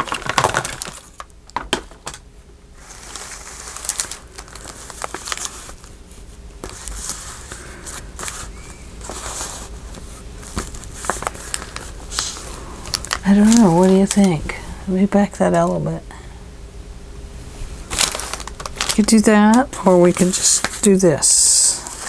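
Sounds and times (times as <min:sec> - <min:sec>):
paper rustling and crinkling: 0:00.0 - 0:02.1, 0:02.8 - 0:14.6, 0:17.6 - 0:22.0.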